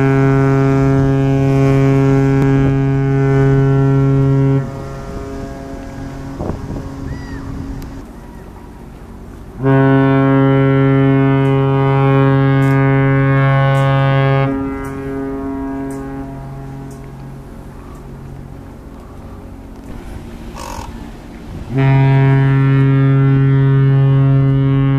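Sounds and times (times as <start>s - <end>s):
ship foghorn blast: 0.0s - 8.2s, 9.5s - 18.6s, 19.4s - 24.9s
foghorn echo across water: 0.0s - 24.9s.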